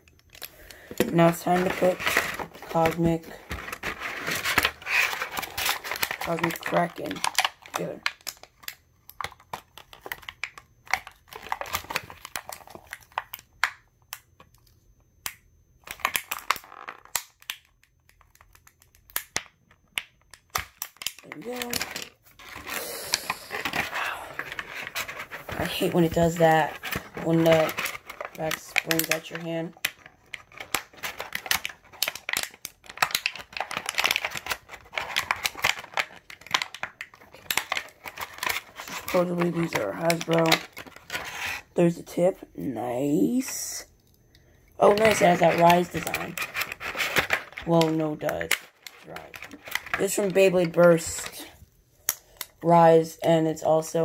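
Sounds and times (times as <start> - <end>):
plastic packaging crinkling: 0.0 - 14.7, 15.8 - 42.0, 44.7 - 51.6.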